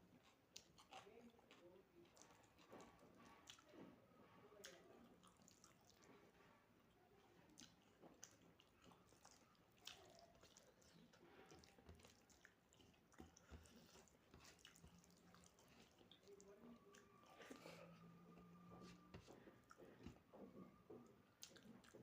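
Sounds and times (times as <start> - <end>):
person chewing food: 0.0 - 3.7, 4.6 - 22.0.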